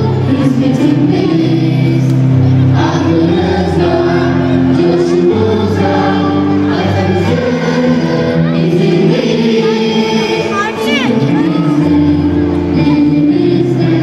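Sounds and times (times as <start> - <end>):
choir singing held notes: 0.0 - 14.0
instrumental backing music: 0.0 - 14.0.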